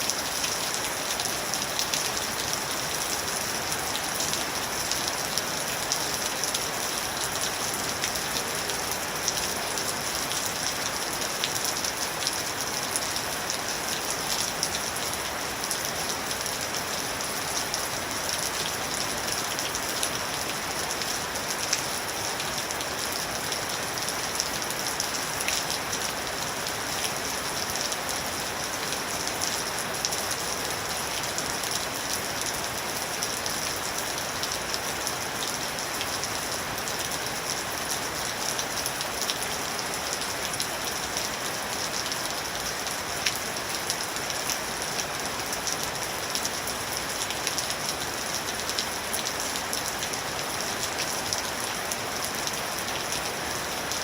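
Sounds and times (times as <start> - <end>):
raindrops hitting a surface: 0.0 - 54.0
steady rain: 0.0 - 54.0.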